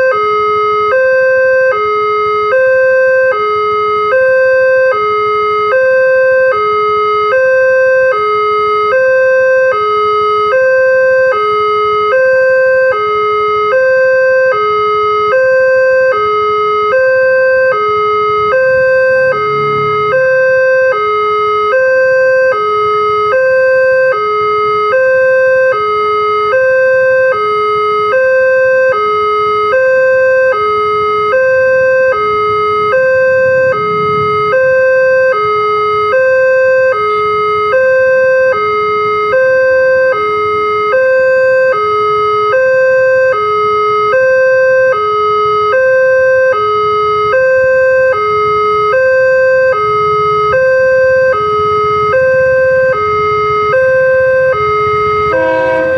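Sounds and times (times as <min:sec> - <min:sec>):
two-tone crossing alarm: 0:00.0 - 0:55.9.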